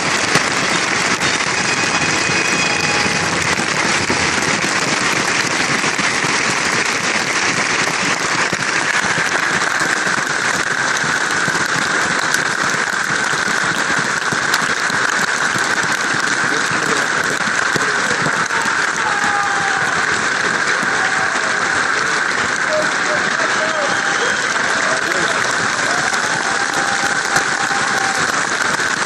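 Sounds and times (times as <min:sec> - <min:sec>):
crowd applauding: 0:00.0 - 0:29.0.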